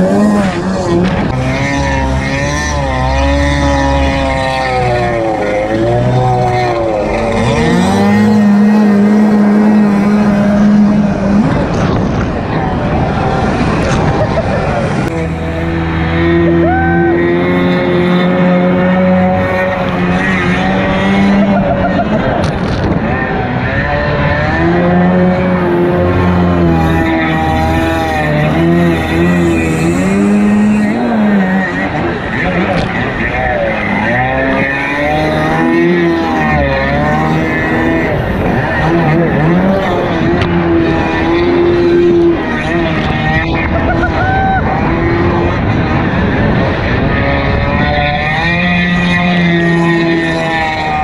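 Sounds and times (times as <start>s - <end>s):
jet ski engine running: 0.0s - 51.0s.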